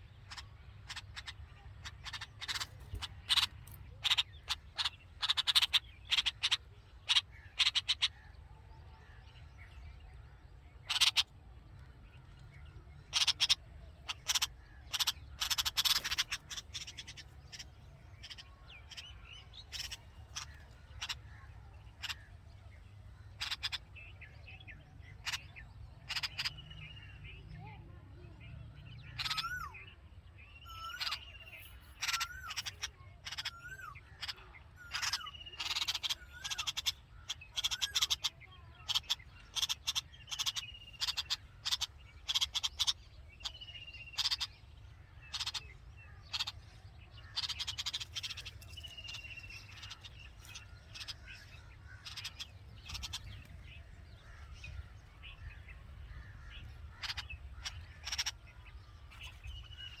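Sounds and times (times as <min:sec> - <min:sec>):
birds chipping: 0:00.0 - 1:00.0.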